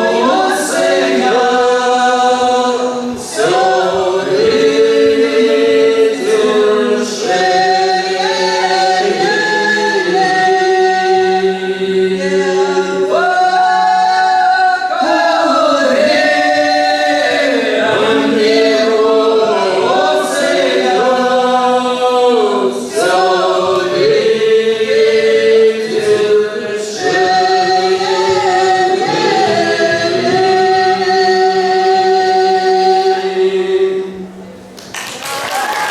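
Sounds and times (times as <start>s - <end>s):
vocal ensemble singing unaccompanied: 0.0s - 35.9s.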